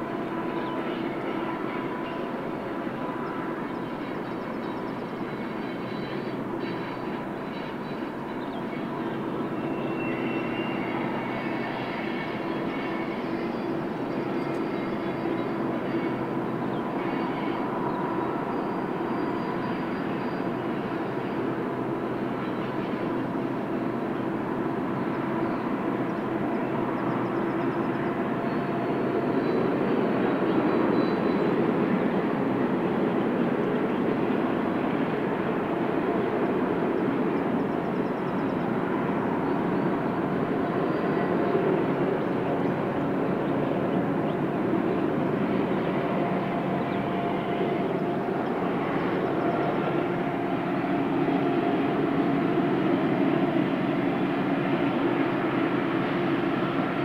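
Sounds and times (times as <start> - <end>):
freight train wheels on rail: 0.0 - 57.0.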